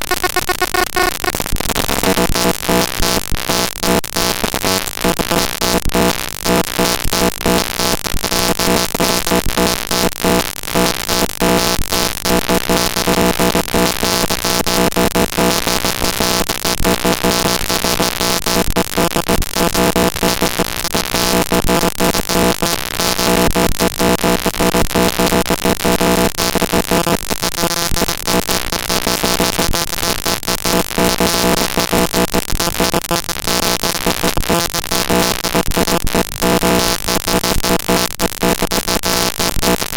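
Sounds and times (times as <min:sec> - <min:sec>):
loud buzzing noise: 0:00.0 - 0:39.9
rapid flickering crackle: 0:00.0 - 0:39.9.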